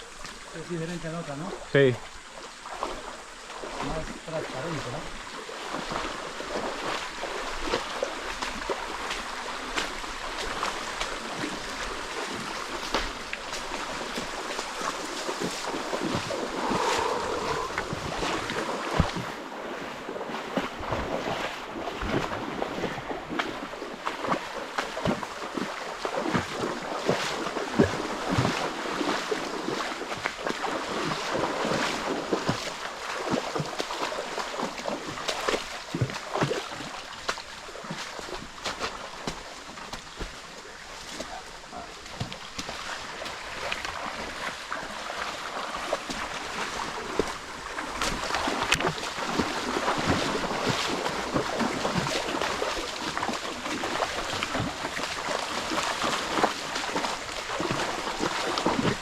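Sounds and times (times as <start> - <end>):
water rushing and splashing: 0.0 - 59.0.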